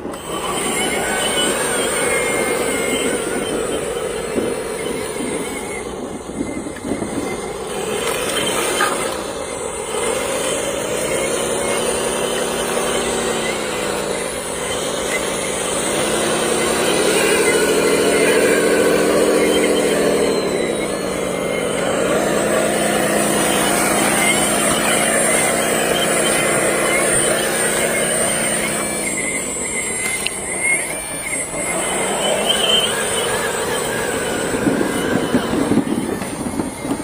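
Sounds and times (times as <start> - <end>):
toy electric motor whining: 0.0 - 37.0.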